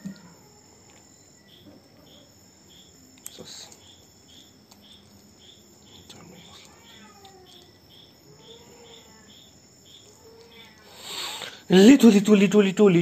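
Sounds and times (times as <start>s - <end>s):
crickets chirping: 0.0s - 13.0s
high insect trill: 0.0s - 13.0s.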